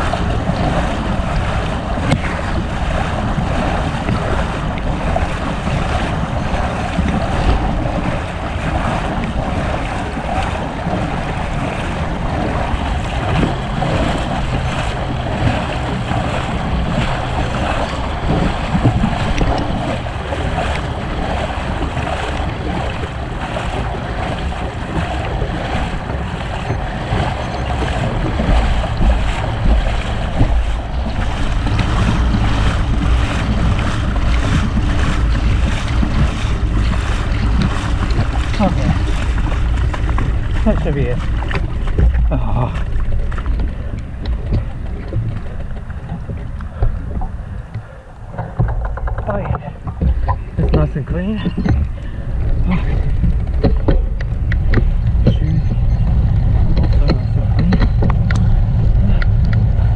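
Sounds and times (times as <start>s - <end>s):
water splashing around bicycle: 0.0s - 59.9s
wind buffeting microphone: 0.0s - 59.9s.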